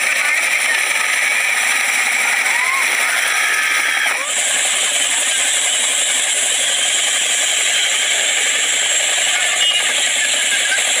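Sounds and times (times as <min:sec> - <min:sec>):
helicopter rotor blades chopping: 0:00.0 - 0:11.0.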